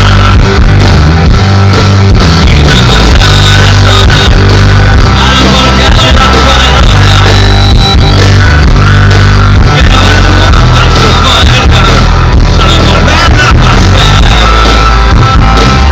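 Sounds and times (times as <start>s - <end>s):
live rock band: 0.0s - 15.9s
moving bass line: 0.0s - 15.9s.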